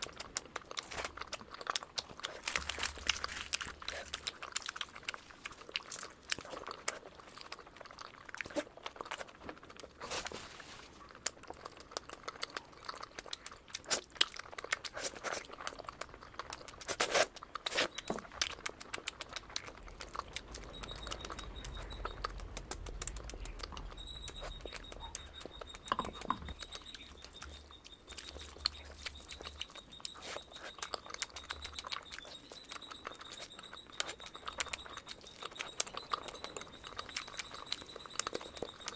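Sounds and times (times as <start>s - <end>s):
chewing and lip smacking: 0.0s - 38.9s.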